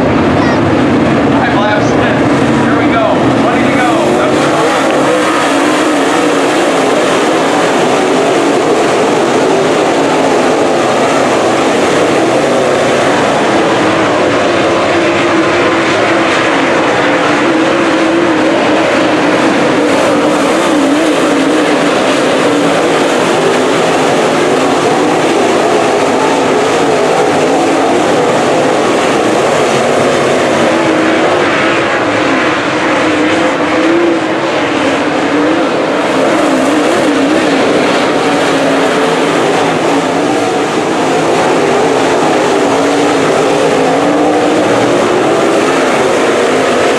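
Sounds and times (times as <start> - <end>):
race car engine droning: 0.0 - 46.9.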